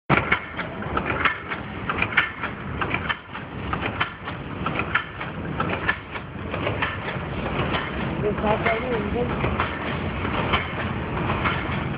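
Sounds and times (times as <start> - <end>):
chain making machine running: 0.1 - 11.9
fast clatter of clicks and knocks: 0.1 - 11.9.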